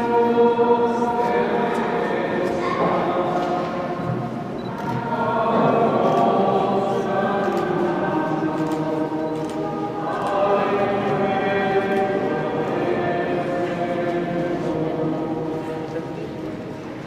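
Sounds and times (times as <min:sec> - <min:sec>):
choir singing slowly: 0:00.0 - 0:17.0.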